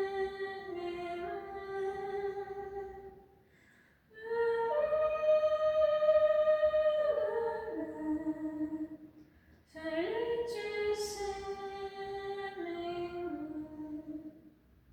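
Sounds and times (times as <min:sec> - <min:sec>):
woman singing wordless notes: 0:00.0 - 0:03.2, 0:04.1 - 0:09.1, 0:09.7 - 0:14.4.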